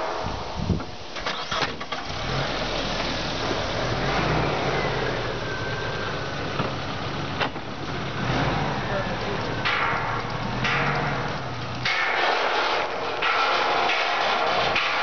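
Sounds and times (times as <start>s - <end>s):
truck engine running at low revs: 0.3s - 15.0s.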